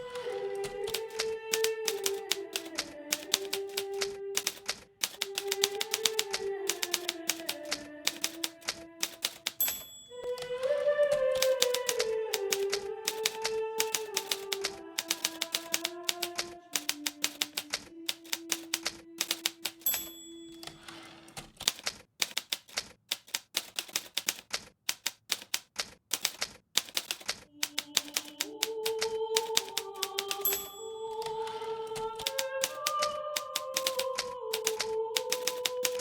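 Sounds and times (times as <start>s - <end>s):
typewriter keystroke clicks: 0.2s - 10.0s, 11.4s - 20.7s, 21.6s - 36.0s
typewriter bell ring: 0.9s - 10.5s, 11.4s - 24.4s, 29.4s - 36.0s.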